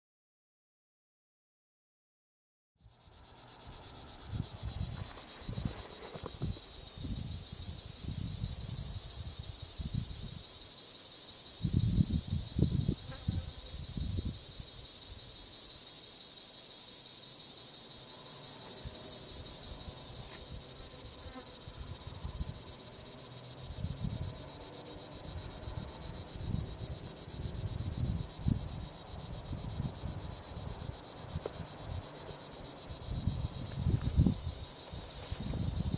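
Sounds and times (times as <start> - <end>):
cicada buzzing: 2.9 - 35.9.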